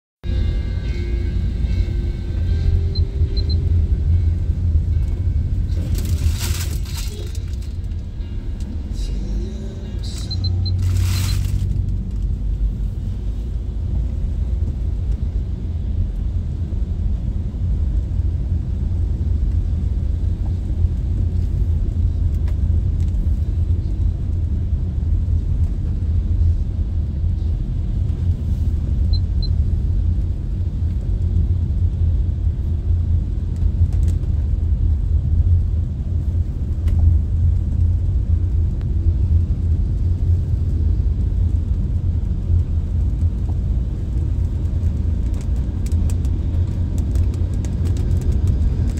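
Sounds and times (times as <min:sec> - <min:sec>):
tractor engine rumbling: 0:00.3 - 0:48.9.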